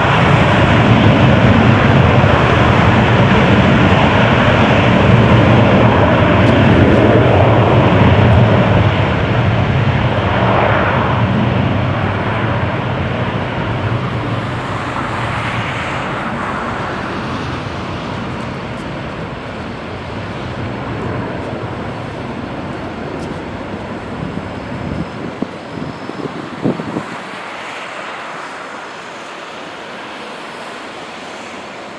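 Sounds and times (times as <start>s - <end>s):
jet engines at takeoff: 0.0s - 31.9s.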